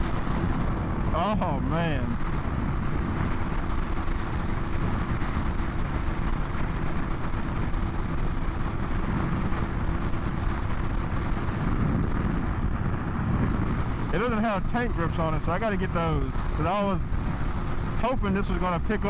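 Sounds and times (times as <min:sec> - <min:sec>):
motorcycle engine drone: 0:00.0 - 0:19.0
wind rush on microphone: 0:00.0 - 0:19.0.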